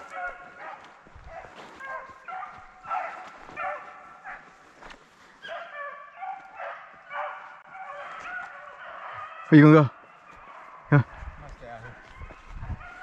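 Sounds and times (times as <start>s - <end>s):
beagles baying: 0.0s - 13.0s.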